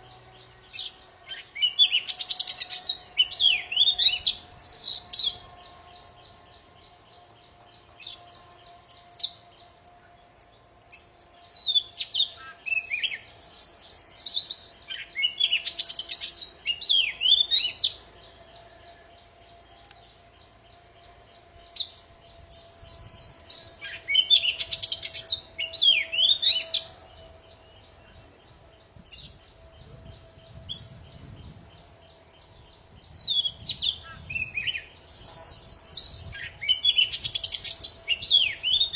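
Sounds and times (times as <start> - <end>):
bird singing whistles and warbles: 0.0 - 38.9.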